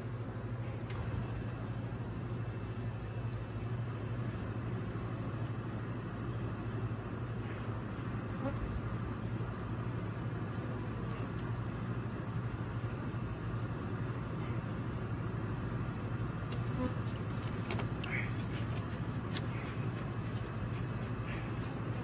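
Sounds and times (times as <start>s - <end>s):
honey bees buzzing: 0.0s - 22.0s
low even hum: 0.0s - 22.0s.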